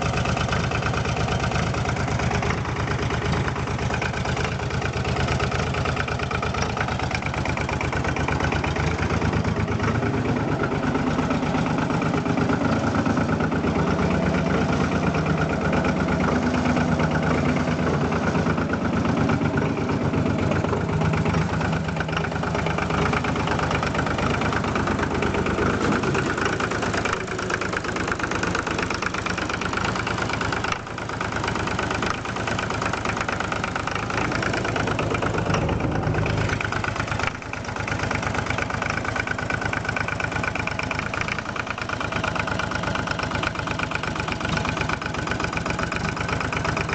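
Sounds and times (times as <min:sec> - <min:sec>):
tractor diesel engine idling: 0:00.0 - 0:46.9.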